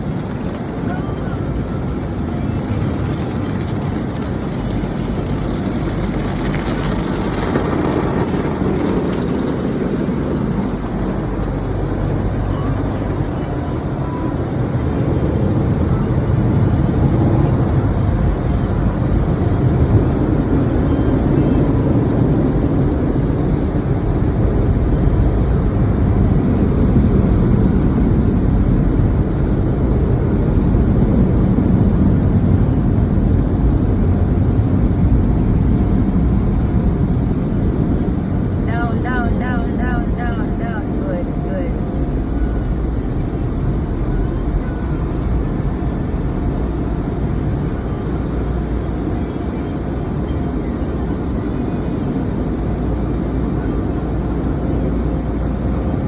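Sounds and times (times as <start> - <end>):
car engine rumble: 0.0 - 56.0.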